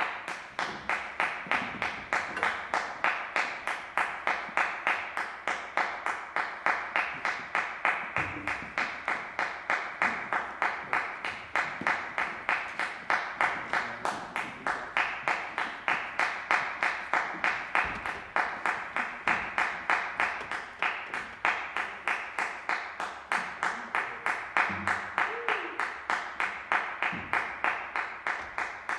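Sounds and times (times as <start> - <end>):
audience applause: 0.0 - 28.9.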